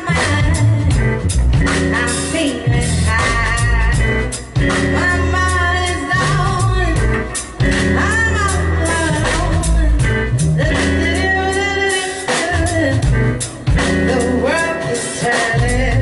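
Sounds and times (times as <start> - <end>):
deep bass notes: 0.0 - 14.9, 15.6 - 16.0
drums: 0.0 - 16.0
keyboard: 0.0 - 16.0
woman singing: 0.0 - 16.0.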